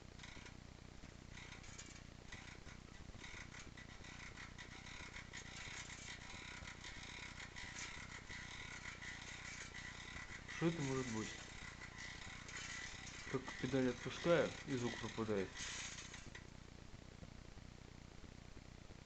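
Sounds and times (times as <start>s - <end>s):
bicycle hub clicking: 0.2s - 0.6s, 1.3s - 16.4s.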